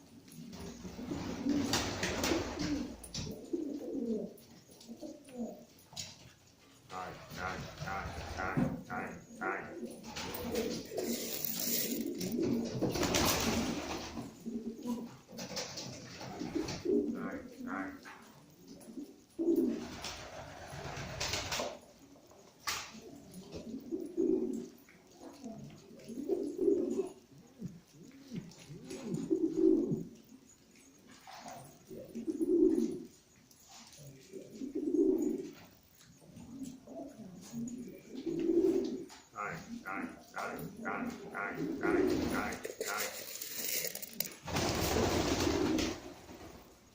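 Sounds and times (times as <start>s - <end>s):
pigeons cooing: 0.0s - 46.9s
rustle: 0.0s - 46.9s.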